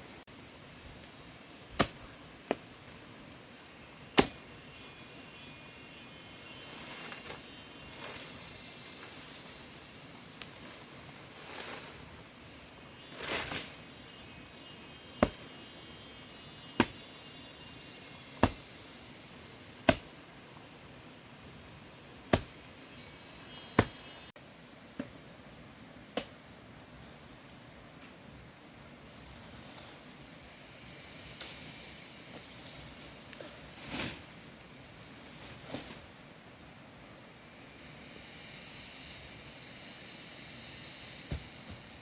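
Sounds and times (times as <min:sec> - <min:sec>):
faint outdoor background: 0:00.0 - 0:42.0.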